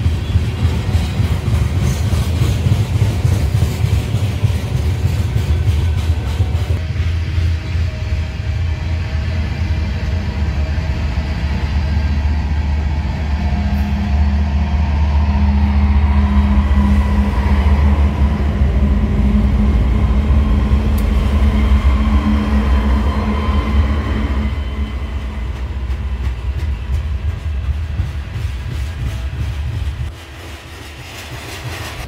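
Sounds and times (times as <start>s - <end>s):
diesel locomotive engines droning: 0.0s - 32.0s.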